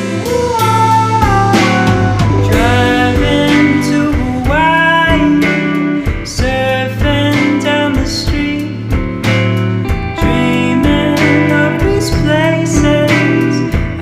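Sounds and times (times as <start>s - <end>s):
guitar music with bass: 0.0s - 14.0s.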